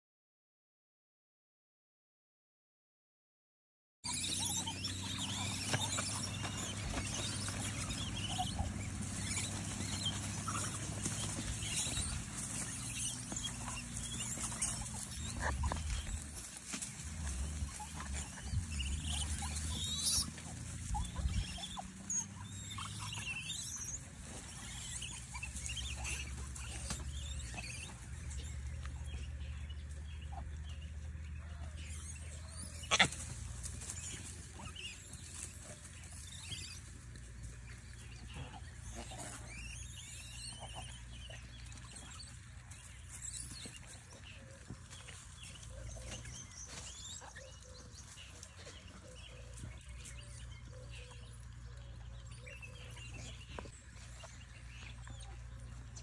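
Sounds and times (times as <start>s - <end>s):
monkeys scuffling and rustling: 4.1s - 30.2s, 30.8s - 51.6s.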